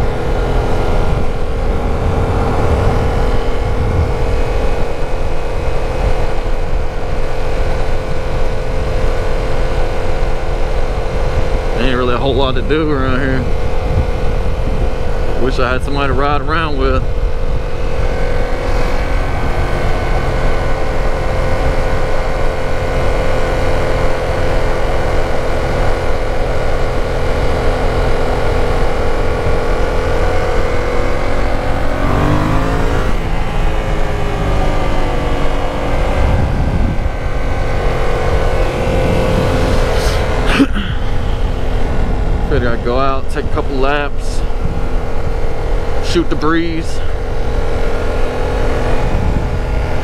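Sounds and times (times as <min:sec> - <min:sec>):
motorcycle engine running: 0:00.0 - 0:50.0
wind rumble on microphone: 0:00.0 - 0:50.0.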